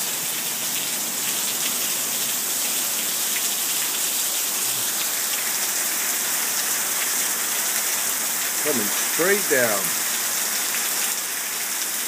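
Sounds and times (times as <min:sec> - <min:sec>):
heavy rain on a patio: 0:00.0 - 0:12.0.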